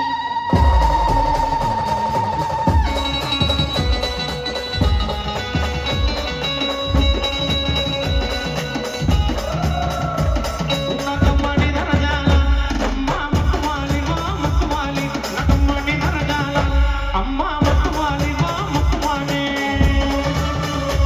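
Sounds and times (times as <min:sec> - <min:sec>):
heavy drum beat: 0:00.5 - 0:21.0.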